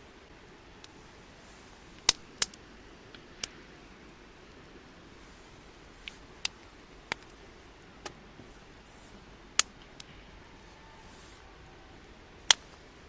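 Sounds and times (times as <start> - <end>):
campfire crackling and popping: 0.0 - 13.0
faint steady background: 0.0 - 13.0.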